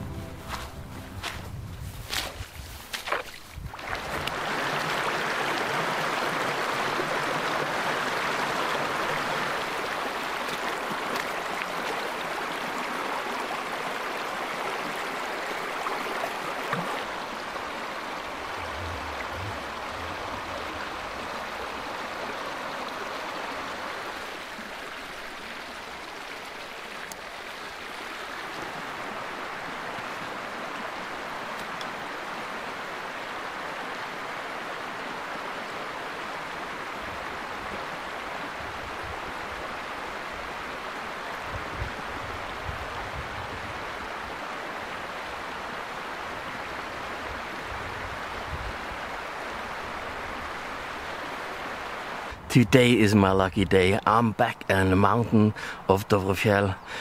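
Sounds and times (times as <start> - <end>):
stream rushing over rocks: 0.0 - 52.5.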